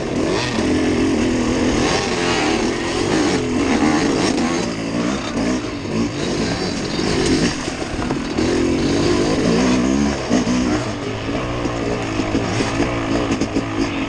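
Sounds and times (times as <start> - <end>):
off-road engine revving: 0.0 - 14.0.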